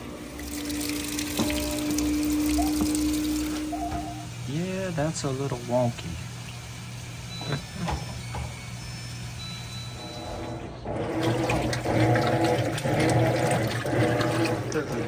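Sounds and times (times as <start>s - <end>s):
steady hum: 0.0s - 14.6s
washing machine drum churning: 0.0s - 15.0s
water filling: 0.0s - 15.0s.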